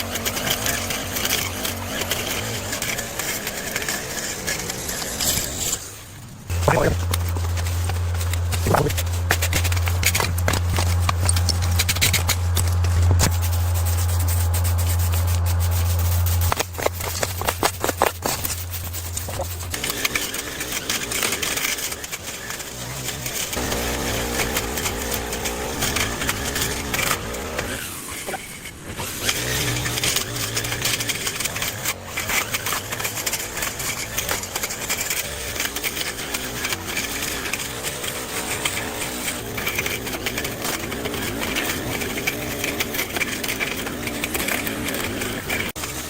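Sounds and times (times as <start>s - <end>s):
power tool motor running: 0.0s - 46.0s.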